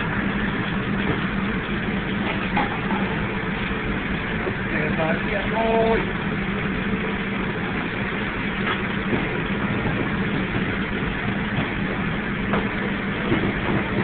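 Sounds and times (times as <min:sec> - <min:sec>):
kitchen machinery droning: 0:00.0 - 0:14.0.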